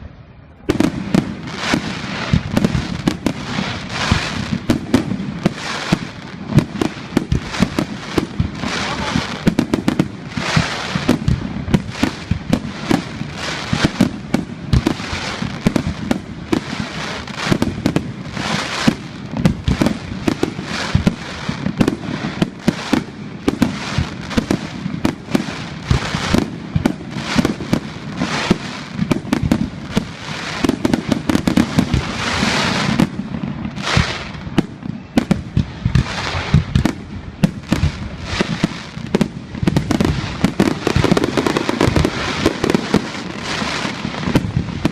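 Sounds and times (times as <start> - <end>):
fireworks bangs: 0.0 - 44.9
hissing crackle of fireworks: 0.0 - 44.9.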